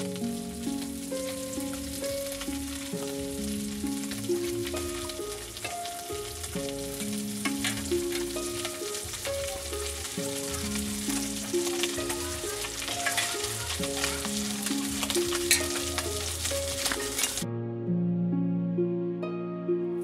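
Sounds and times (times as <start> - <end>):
steady hiss: 0.0 - 17.4
water splashing in a pot: 0.0 - 17.4
slow instrumental music: 0.0 - 20.0.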